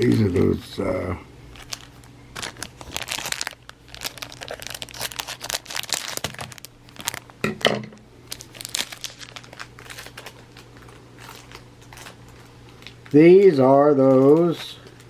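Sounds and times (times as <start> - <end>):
cellophane wrapper crinkling and tearing: 1.5 - 7.5, 8.2 - 15.0
cards rustling: 1.6 - 7.3, 8.3 - 15.0.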